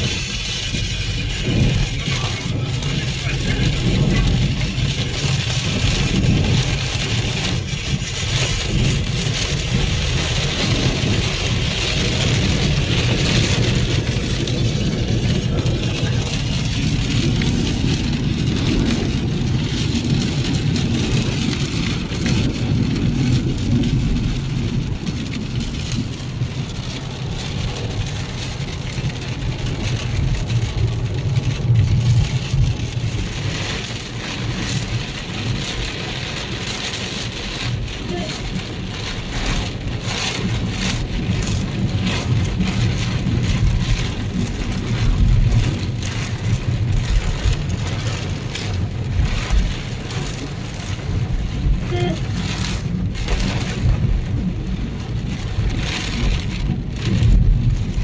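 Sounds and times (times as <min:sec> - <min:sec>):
engine and tyres rumbling: 0:00.0 - 0:58.0
heavy rain pelting a car: 0:00.0 - 0:58.0.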